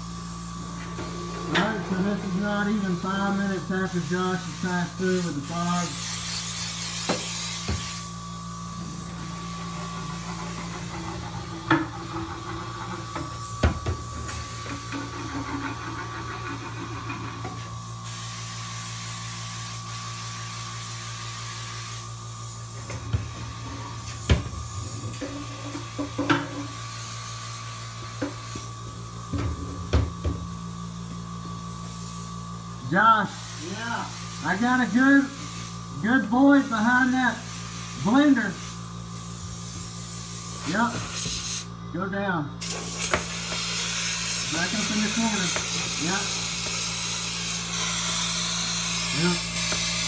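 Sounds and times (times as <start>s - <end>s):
electric motor hum with whine: 0.0s - 50.0s.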